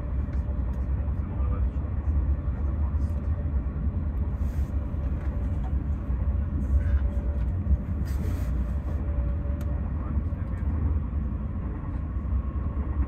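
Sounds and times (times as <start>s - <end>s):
train rumble inside passenger car: 0.0s - 13.0s.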